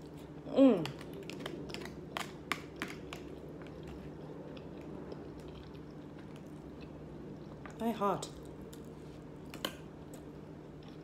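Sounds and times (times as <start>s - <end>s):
person chewing: 0.0s - 7.8s, 8.4s - 11.0s.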